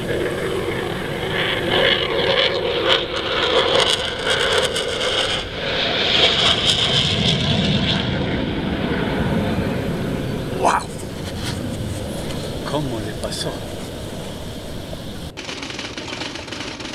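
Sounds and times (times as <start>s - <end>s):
jet flying past: 0.0s - 16.9s.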